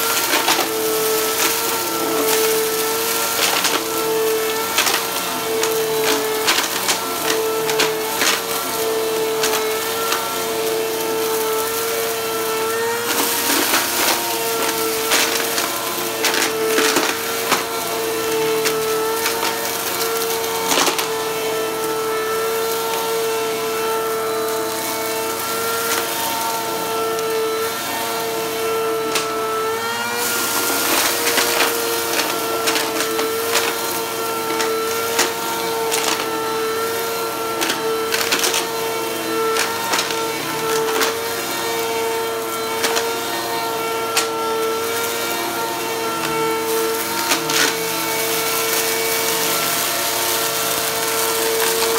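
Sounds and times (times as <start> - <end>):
debris rattling in vacuum: 0.0 - 51.9
vacuum cleaner motor whine: 0.0 - 51.9.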